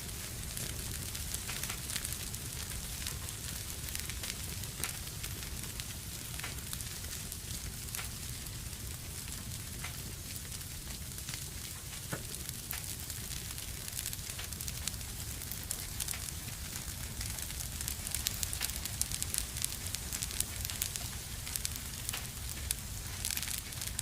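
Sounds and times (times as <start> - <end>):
fire crackles and pops: 0.0 - 24.0
wood fire burning: 0.0 - 24.0.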